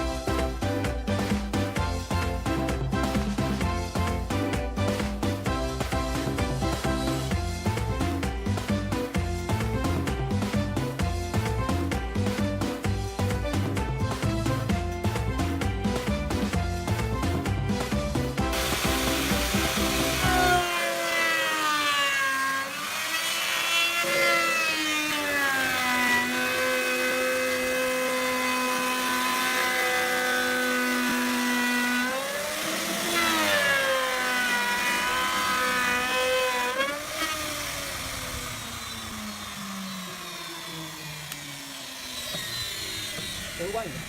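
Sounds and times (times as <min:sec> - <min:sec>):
power tool cutting wood: 0:00.0 - 0:44.0.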